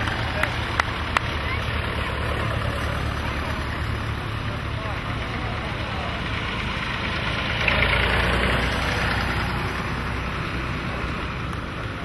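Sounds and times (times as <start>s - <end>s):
tractor engines driving past: 0.0s - 12.0s.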